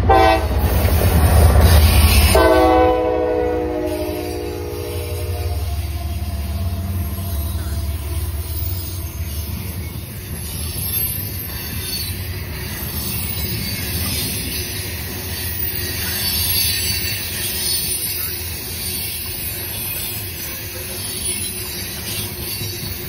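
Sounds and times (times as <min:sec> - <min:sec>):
diesel locomotive engine rumble: 0:00.0 - 0:23.0
train cars rolling on rails: 0:00.0 - 0:23.0
high wheel squeal: 0:01.6 - 0:02.7, 0:03.8 - 0:23.0.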